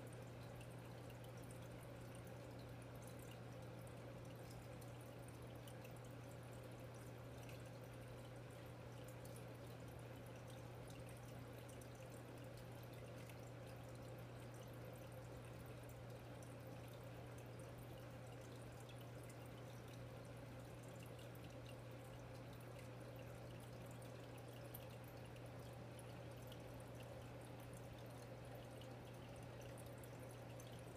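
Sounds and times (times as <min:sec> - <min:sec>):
aquarium pump hum: 0:00.0 - 0:30.9
water trickling and dripping: 0:00.0 - 0:30.9.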